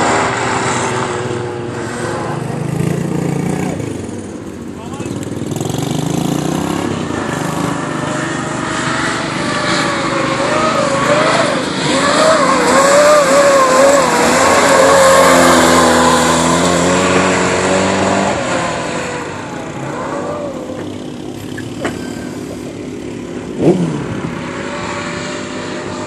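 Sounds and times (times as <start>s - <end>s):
race car engine passing: 0.0s - 26.0s.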